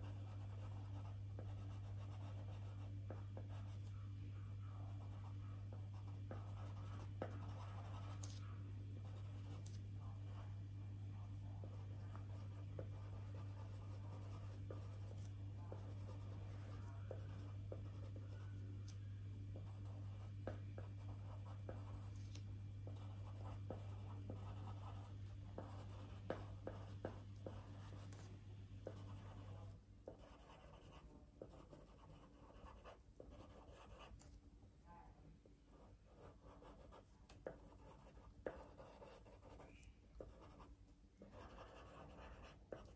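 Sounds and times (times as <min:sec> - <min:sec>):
pencil scratching on paper: 0:00.0 - 0:04.0, 0:04.7 - 0:10.6, 0:11.5 - 0:18.6, 0:19.6 - 0:34.2, 0:35.7 - 0:42.9
steady low hum: 0:00.0 - 0:42.9.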